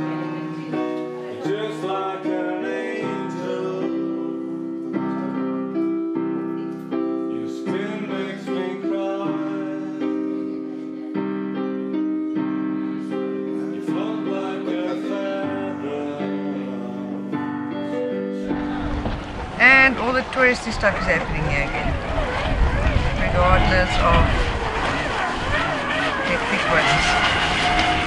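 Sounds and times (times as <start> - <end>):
digital piano chords and melody: 0.0 - 28.0.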